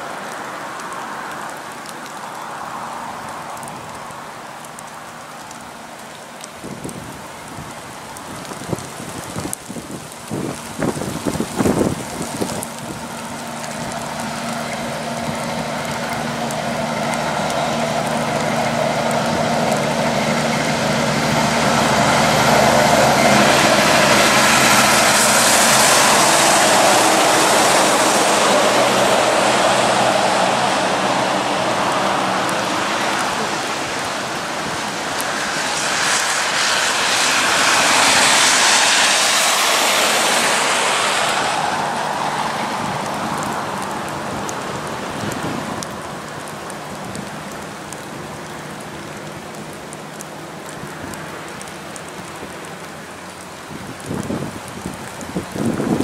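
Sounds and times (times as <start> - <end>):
tyres hissing through water: 0.0 - 56.0
diesel truck engine drone: 10.0 - 56.0.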